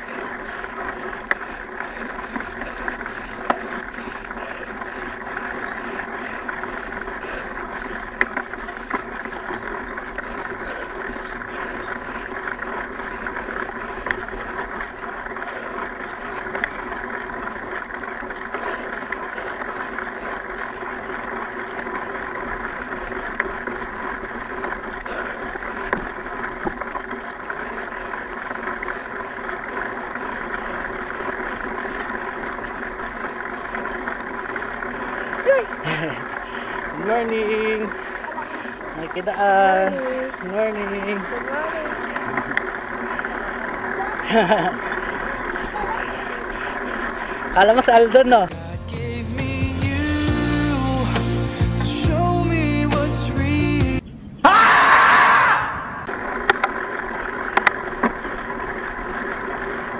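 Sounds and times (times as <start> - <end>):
bike tyres rolling on dirt: 0.0 - 59.9.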